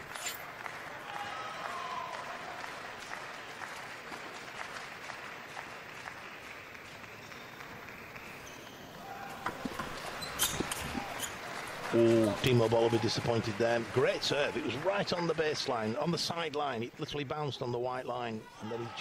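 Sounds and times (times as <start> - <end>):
crowd applause: 0.0 - 16.5.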